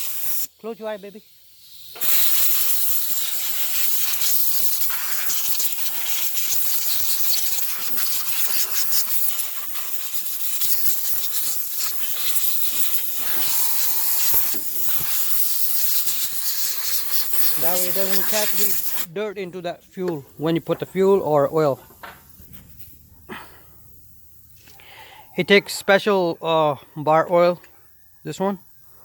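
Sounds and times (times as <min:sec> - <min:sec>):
compressed air hissing: 0:00.0 - 0:25.5.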